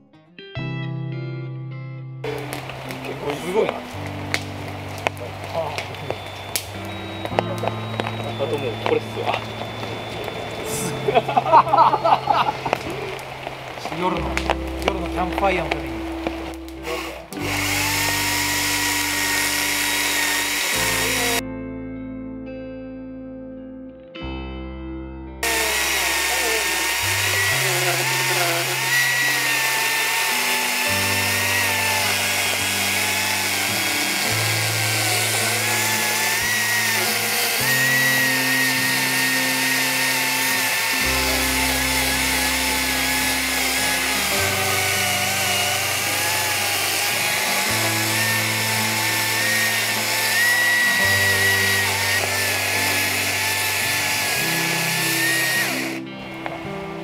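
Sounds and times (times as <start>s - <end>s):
background music: 0.0s - 57.0s
electric chainsaw cutting log: 2.2s - 21.4s, 25.4s - 56.6s.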